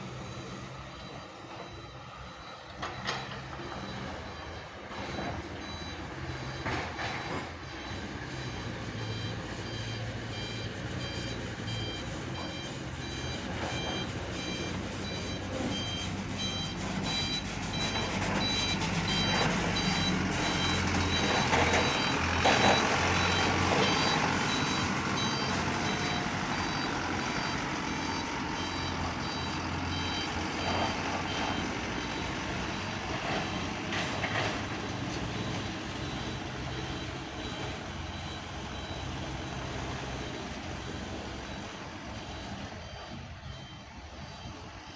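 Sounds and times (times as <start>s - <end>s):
diesel engine running: 0.0s - 44.9s
warning alarm beeping: 0.2s - 32.3s, 35.3s - 44.9s.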